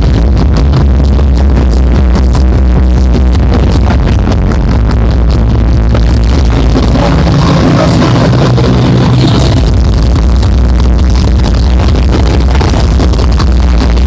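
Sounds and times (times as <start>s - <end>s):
kick drum beat: 0.0s - 7.8s, 8.8s - 14.0s
loud hardstyle dance music: 0.0s - 14.0s.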